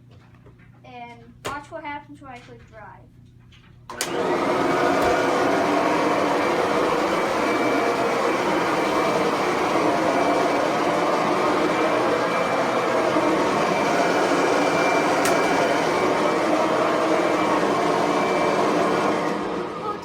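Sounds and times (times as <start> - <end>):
upright vacuum cleaner motor running: 3.9 - 20.0.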